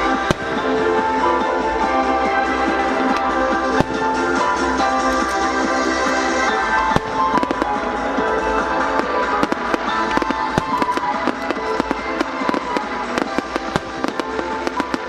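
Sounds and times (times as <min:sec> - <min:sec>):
firework bangs: 0:00.0 - 0:01.4, 0:03.1 - 0:15.0
music playing: 0:00.0 - 0:15.0.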